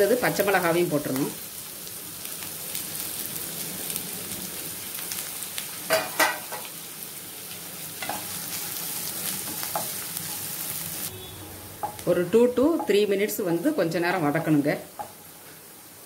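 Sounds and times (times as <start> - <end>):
vegetables stirred in pan: 0.0 - 15.8
vegetables sizzling in hot oil: 0.0 - 16.0.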